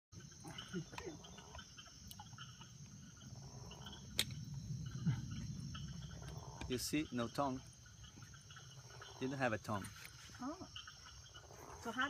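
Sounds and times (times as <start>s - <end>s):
crickets trilling: 0.1s - 12.0s.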